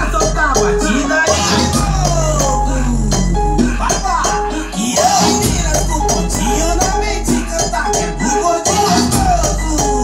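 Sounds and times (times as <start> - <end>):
music with deep bass line: 0.0 - 10.0.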